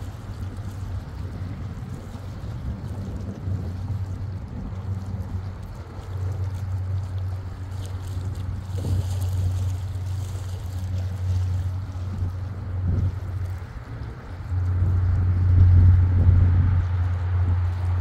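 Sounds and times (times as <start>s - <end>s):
water lapping at shore: 0.0s - 18.0s
wind buffeting microphone: 0.0s - 18.0s.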